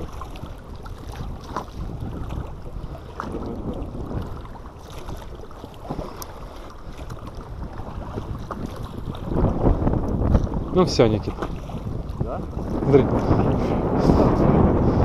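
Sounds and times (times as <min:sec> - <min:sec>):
waves lapping against boat hull: 0:00.0 - 0:15.0
wind rumbling on microphone: 0:00.0 - 0:15.0.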